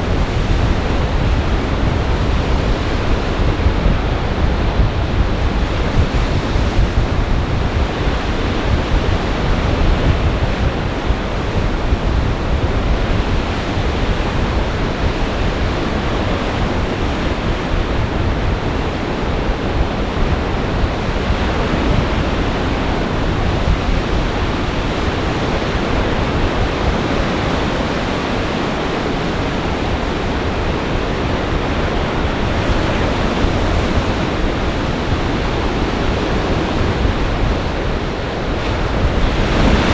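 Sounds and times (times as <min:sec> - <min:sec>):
storm surf breaking: 0:00.0 - 0:39.9
strong wind: 0:00.0 - 0:39.9.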